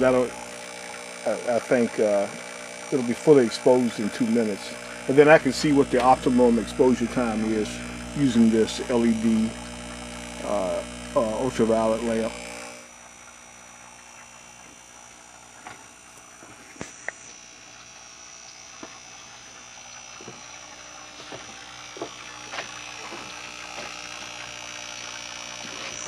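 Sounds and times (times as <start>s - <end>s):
electrical buzz: 0.0s - 26.0s
low hums: 0.0s - 26.0s
thin high whine: 0.0s - 26.0s.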